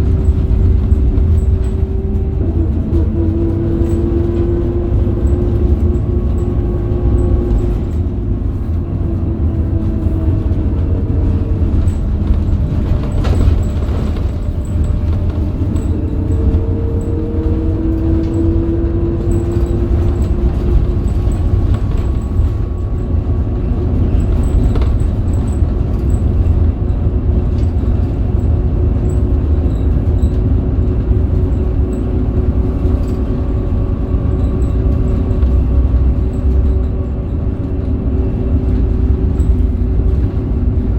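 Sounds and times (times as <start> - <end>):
bus diesel engine running: 0.0 - 40.9
low road rumble: 0.0 - 40.9.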